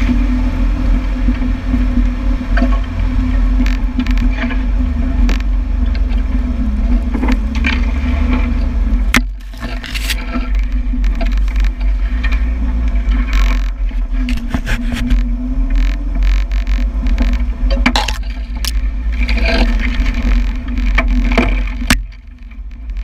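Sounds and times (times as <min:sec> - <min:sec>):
vehicle engine droning: 0:00.0 - 0:23.0
branches scraping and snapping: 0:02.5 - 0:23.0.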